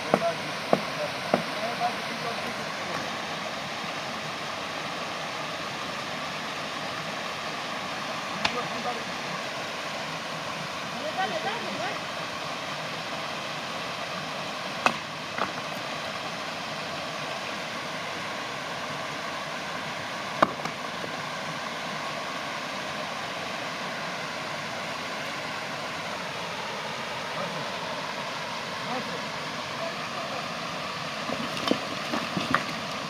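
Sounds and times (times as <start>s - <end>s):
steady rushing hiss: 0.0s - 33.0s.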